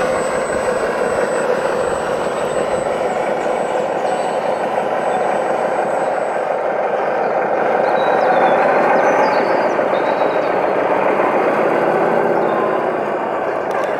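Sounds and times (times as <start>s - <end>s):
model truck motor running: 0.0s - 13.9s.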